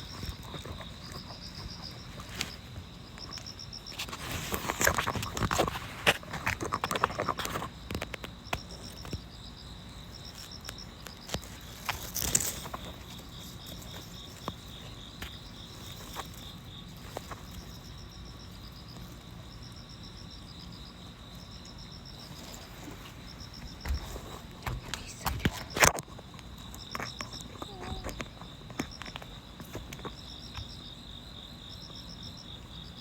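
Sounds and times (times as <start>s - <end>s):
insects chirping in pulses: 0.0s - 33.0s.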